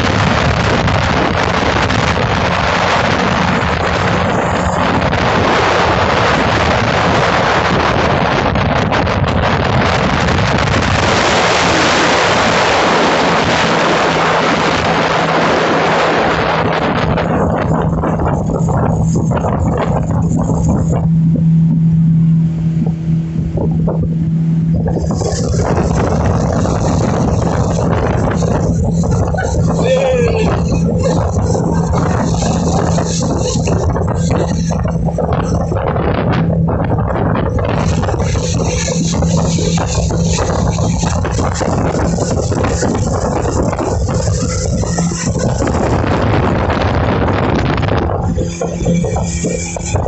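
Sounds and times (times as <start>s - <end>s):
motorboat engine humming: 0.0s - 50.0s
water rushing past hull: 0.0s - 50.0s
wind noise on microphone: 0.0s - 50.0s.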